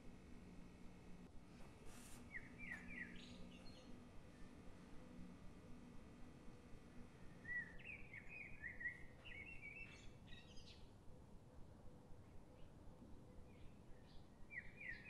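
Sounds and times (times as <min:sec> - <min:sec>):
steady background noise: 0:00.0 - 0:14.6
faint birdsong chirps: 0:01.7 - 0:15.0.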